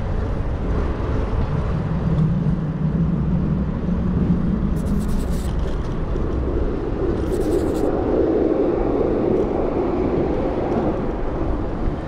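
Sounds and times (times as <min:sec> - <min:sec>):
bicycle road rumble: 0:00.0 - 0:12.0
wind on microphone: 0:00.0 - 0:12.0.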